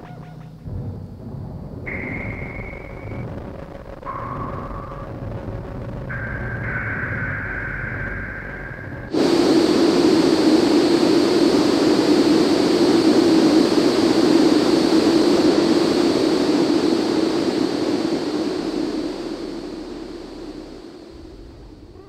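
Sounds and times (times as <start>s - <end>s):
dense hissing noise: 0.6s - 22.0s
low electronic rumble: 0.6s - 22.0s.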